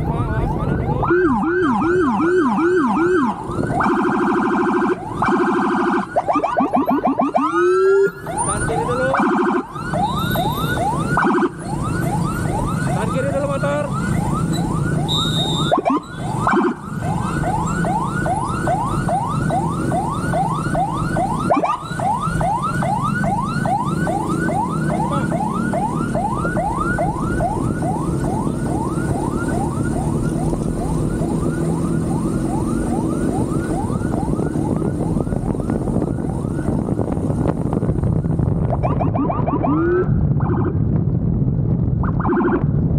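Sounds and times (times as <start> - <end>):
police siren yelping: 0.0 - 40.8, 42.0 - 42.8
motorcycle engine and road rumble: 0.0 - 42.9.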